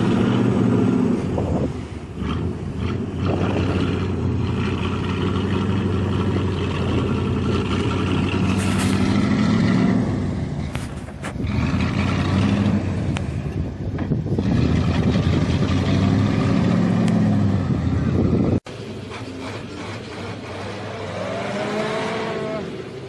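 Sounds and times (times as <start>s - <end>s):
truck engine running: 0.0s - 21.3s.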